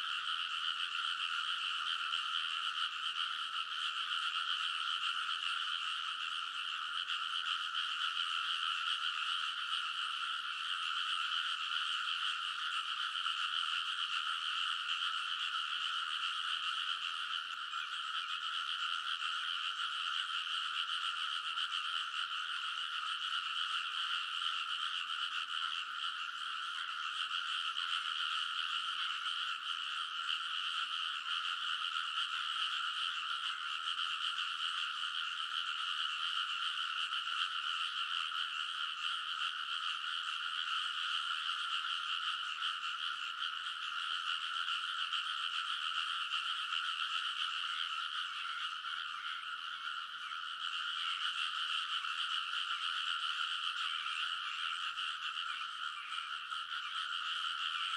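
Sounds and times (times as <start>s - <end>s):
chorus of frogs croaking: 0.0s - 57.9s.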